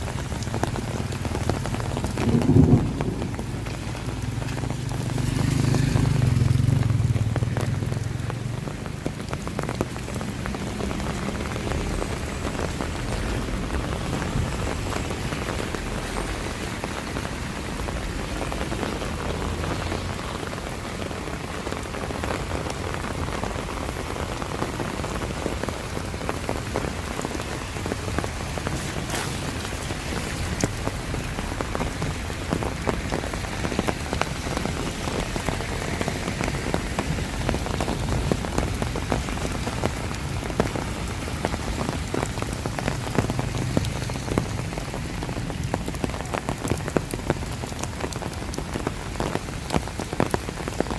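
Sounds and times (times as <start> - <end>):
raindrops ticking: 0.0 - 50.9
steady rain falling: 0.0 - 50.9.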